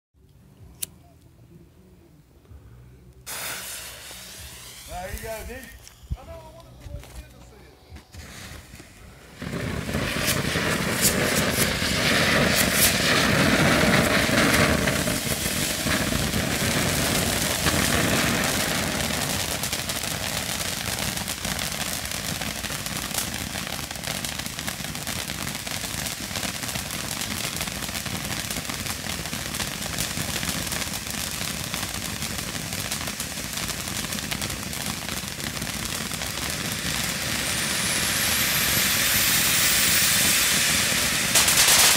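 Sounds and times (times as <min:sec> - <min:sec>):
firework fountain hissing and crackling: 0:03.2 - 0:41.9.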